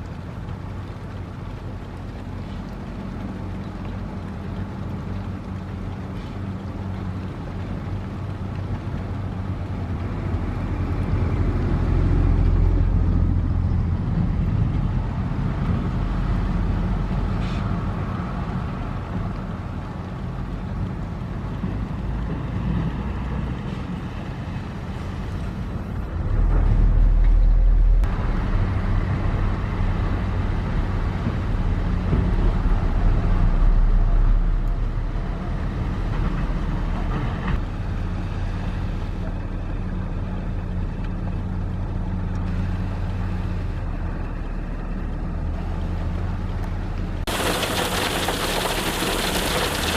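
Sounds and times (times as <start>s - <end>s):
heavy machinery diesel engine: 0.0s - 49.9s.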